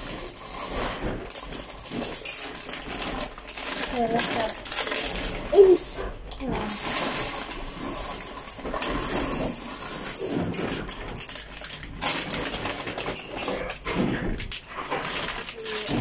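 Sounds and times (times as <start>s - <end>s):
plastic packets crinkling: 0.0s - 16.0s.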